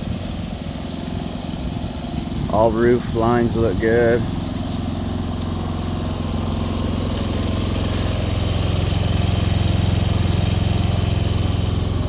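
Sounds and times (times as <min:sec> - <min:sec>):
generator engine droning: 0:00.0 - 0:12.0.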